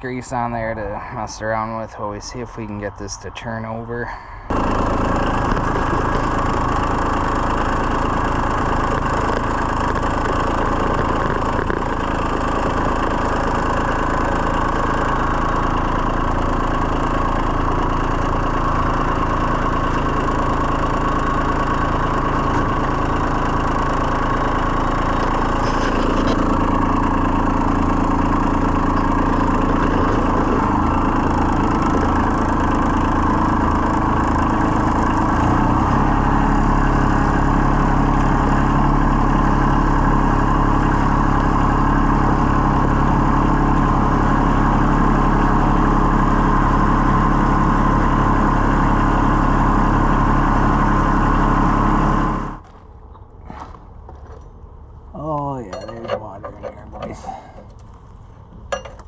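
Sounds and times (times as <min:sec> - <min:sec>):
small engine running: 0:00.0 - 0:54.6.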